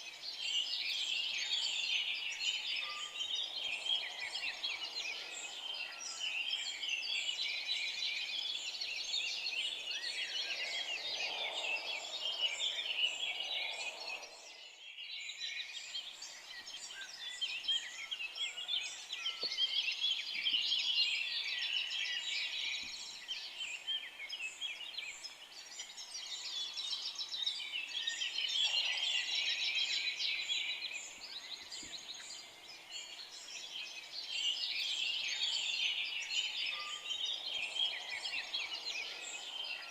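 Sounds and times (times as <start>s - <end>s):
forest birds chorus: 0.0s - 39.9s.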